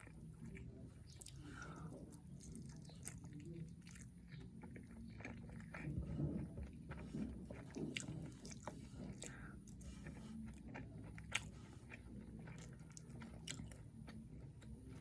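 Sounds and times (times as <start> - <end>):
close chewing and biting: 0.0 - 15.0.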